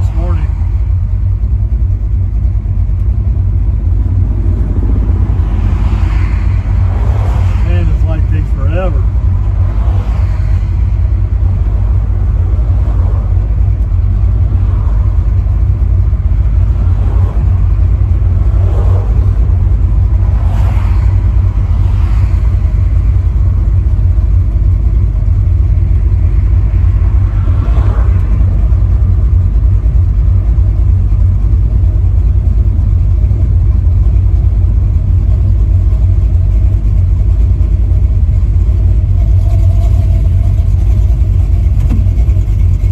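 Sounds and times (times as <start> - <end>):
engine running with deep rumble: 0.0 - 42.9.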